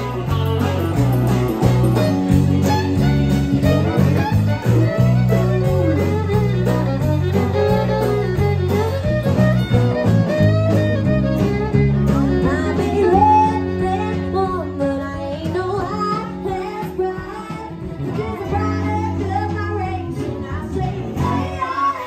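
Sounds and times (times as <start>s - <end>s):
acoustic and electric guitars: 0.0s - 22.0s
bass line: 0.0s - 22.0s
fiddle melody: 0.0s - 22.0s.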